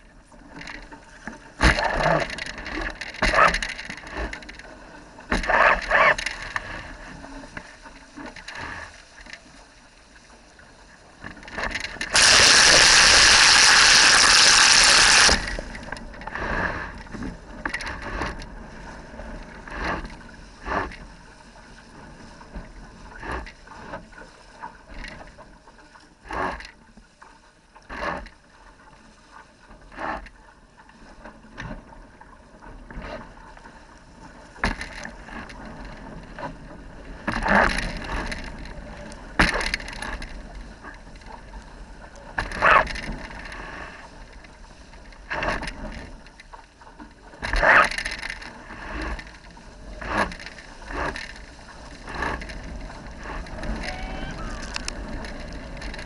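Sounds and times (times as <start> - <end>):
waves splashing against hull: 0.0 - 56.0.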